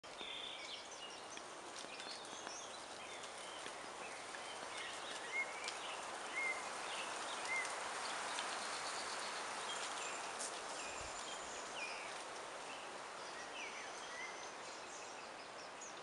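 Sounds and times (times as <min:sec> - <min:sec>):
small birds singing: 0:00.0 - 0:16.0
wind in pine trees: 0:00.0 - 0:16.0.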